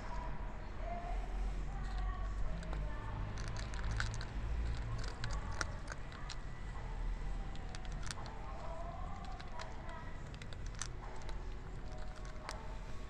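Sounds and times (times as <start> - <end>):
low background rumble: 0.0 - 13.0
cats crunching dry kibble: 1.6 - 13.0.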